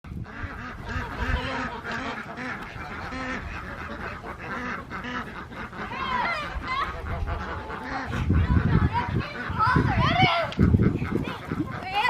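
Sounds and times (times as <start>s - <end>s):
ducks quacking: 0.1s - 12.0s.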